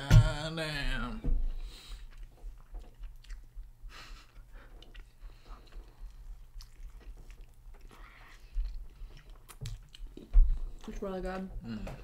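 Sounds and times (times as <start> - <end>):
low steady hum: 0.0 - 12.0
close chewing mouth sounds: 1.8 - 11.5.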